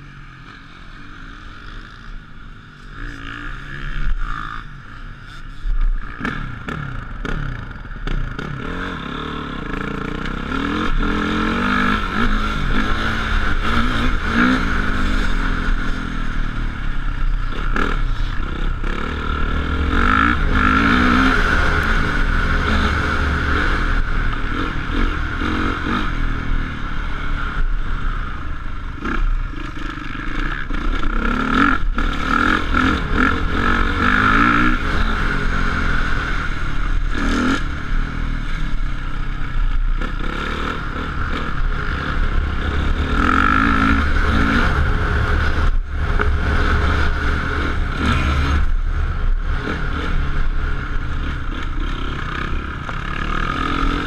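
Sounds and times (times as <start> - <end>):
motorcycle engine revving hard: 6.0 - 54.0.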